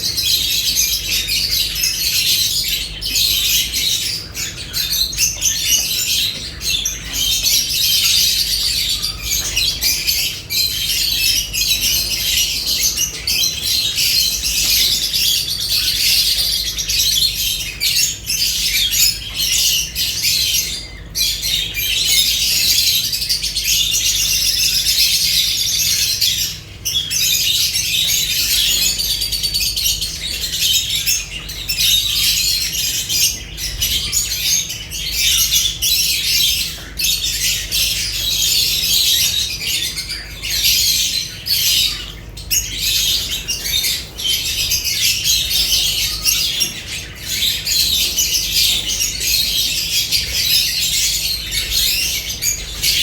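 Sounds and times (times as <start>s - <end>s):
birds chattering and squawking: 0.0s - 53.0s.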